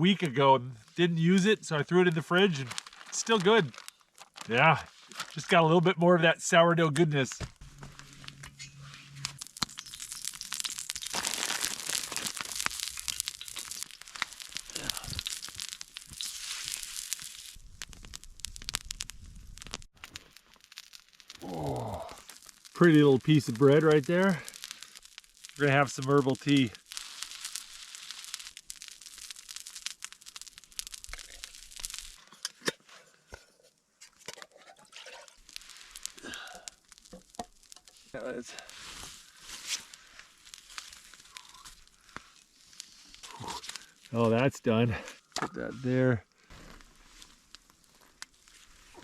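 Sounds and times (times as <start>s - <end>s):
crusty bread crackling: 0.1s - 5.8s, 7.3s - 49.0s
packaging crinkling and tearing: 1.2s - 5.6s, 7.3s - 33.4s, 34.0s - 44.2s, 46.5s - 49.0s.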